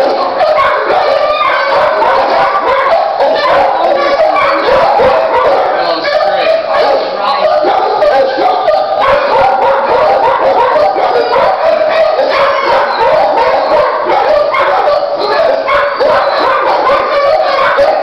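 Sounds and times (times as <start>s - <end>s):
many dogs barking: 0.0s - 18.0s.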